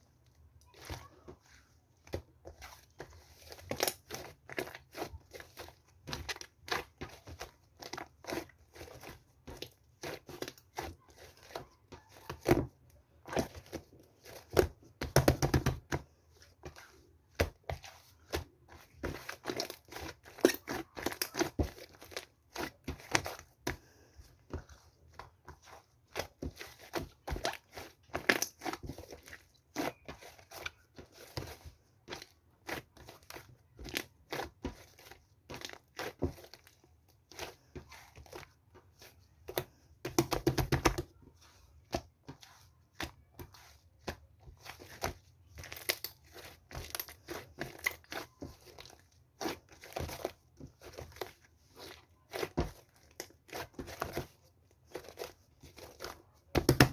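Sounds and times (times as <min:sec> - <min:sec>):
crinkly material rustling: 0:00.0 - 0:56.9.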